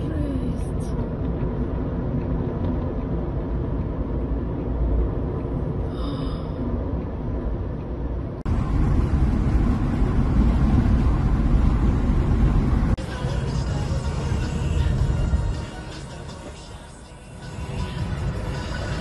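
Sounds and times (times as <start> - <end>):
low outdoor rumble: 0.0 - 19.0
road and engine noise inside car: 0.0 - 19.0.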